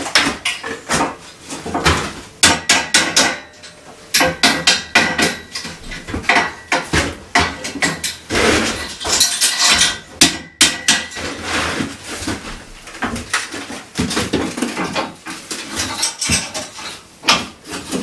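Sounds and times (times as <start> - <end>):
metallic clanks and knocks: 0.0 - 11.4, 14.0 - 18.0.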